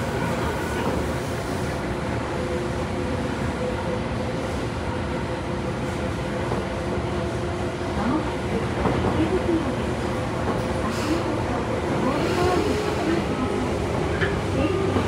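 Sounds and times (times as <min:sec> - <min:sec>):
train hum: 0:00.0 - 0:15.0
train rumbling in tunnel: 0:00.0 - 0:15.0.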